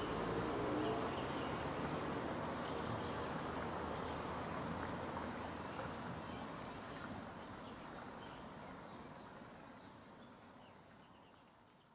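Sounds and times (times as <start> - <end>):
steady outdoor hiss: 0.0 - 11.9.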